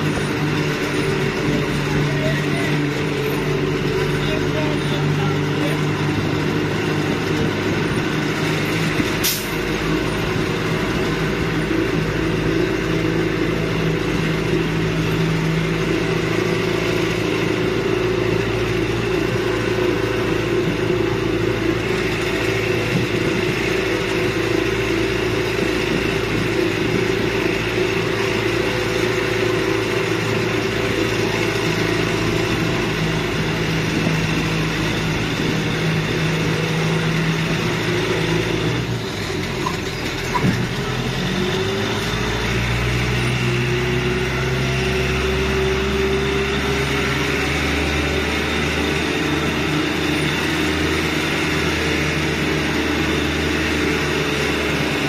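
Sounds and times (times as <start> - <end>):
road noise: 0.0 - 55.0
vehicle engine running: 0.0 - 55.0.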